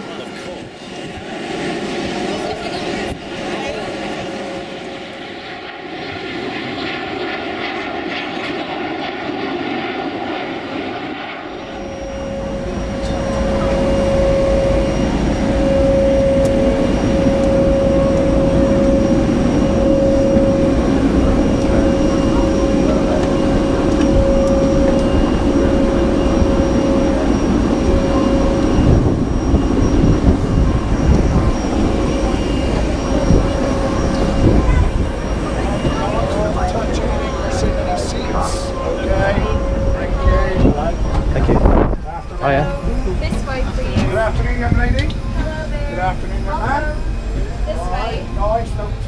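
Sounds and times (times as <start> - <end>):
aircraft engine whine and rumble: 0.0 - 49.0.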